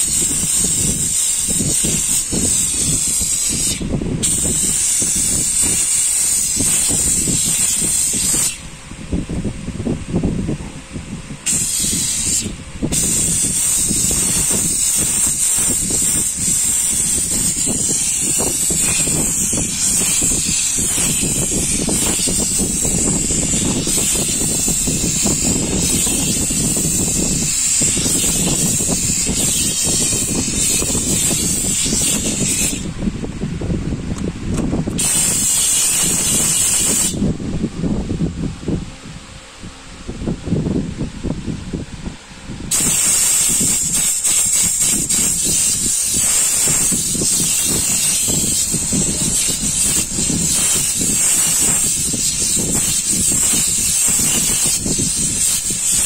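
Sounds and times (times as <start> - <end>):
steam cleaner hissing: 0.0 - 8.7, 11.4 - 33.0, 35.0 - 37.3, 42.7 - 56.0
steady low rumble: 0.0 - 56.0.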